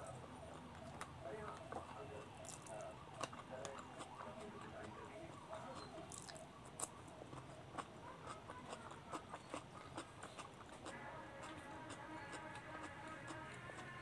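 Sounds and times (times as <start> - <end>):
chewing crisp cucumber: 0.0 - 14.0.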